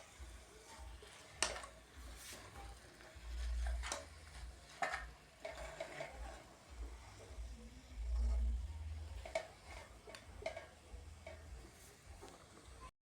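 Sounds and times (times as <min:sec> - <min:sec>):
spoon stirring food in a pot: 0:00.6 - 0:12.6.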